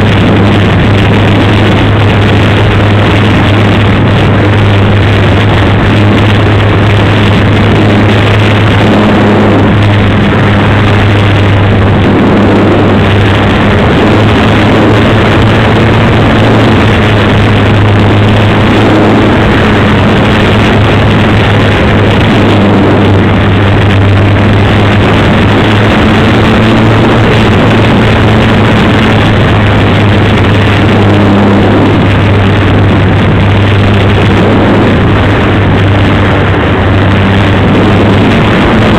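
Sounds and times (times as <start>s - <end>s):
model plane motor humming: 0.0s - 38.9s
wind rush on microphone: 0.0s - 38.9s.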